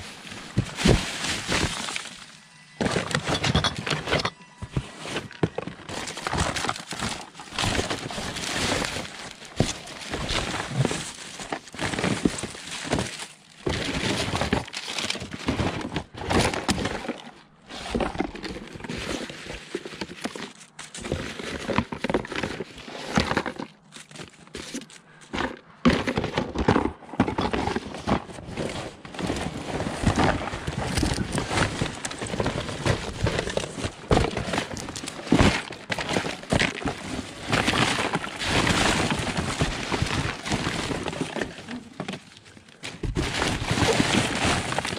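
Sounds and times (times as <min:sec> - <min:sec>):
scrap clattering in a dumpster: 0:00.0 - 0:44.9.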